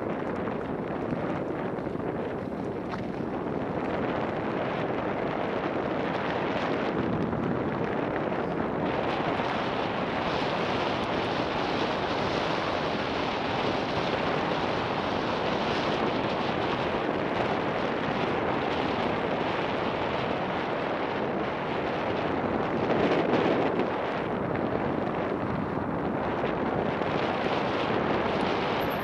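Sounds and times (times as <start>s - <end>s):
bike tyres rolling on gravel: 0.0s - 29.0s
wind rushing over microphone: 0.0s - 29.0s.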